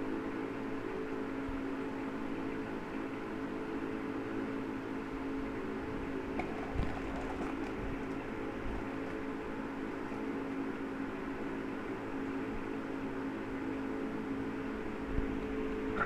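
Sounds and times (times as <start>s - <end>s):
appliance mechanical hum: 0.0s - 16.0s.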